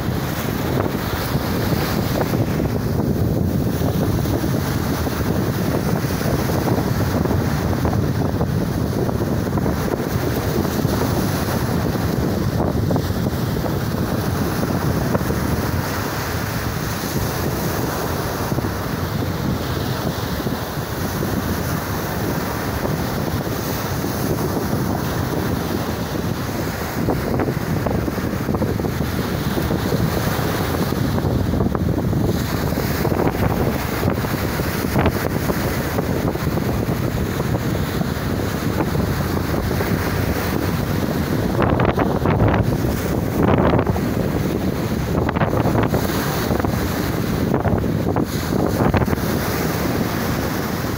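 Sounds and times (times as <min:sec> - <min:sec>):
sea waves breaking on beach: 0:00.0 - 0:50.9
wind buffeting microphone: 0:00.0 - 0:50.9.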